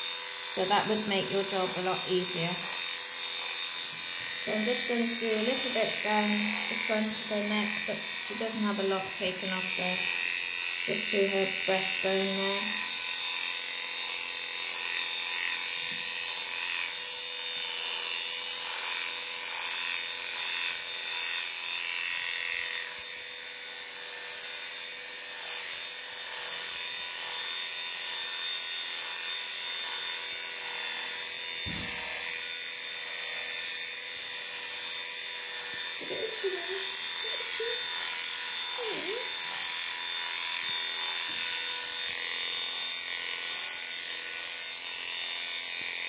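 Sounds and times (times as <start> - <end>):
electric dog clippers buzzing: 0.0 - 46.0.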